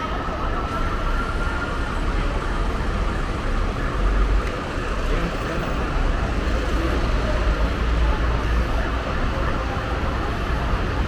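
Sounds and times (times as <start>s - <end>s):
heavy vehicle engines rumbling: 0.0s - 11.0s.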